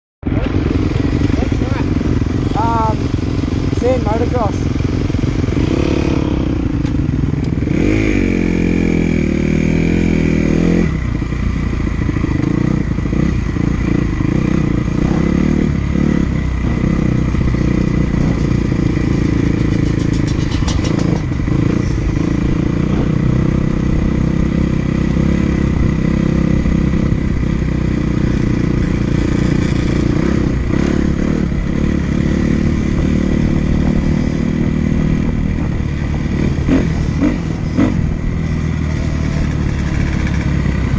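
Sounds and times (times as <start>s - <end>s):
dirt bike engine revving: 0.2s - 40.9s.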